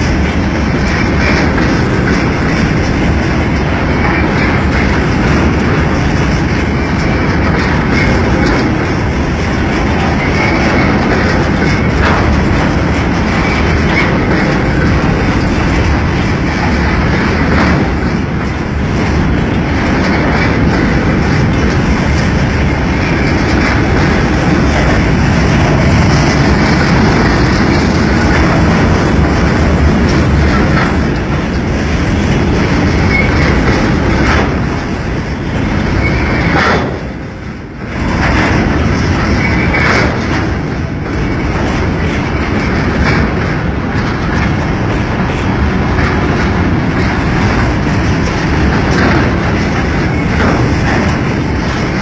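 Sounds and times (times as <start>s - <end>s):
freight train rolling past: 0.0s - 52.0s
wheels clicking over rail joints: 0.0s - 52.0s.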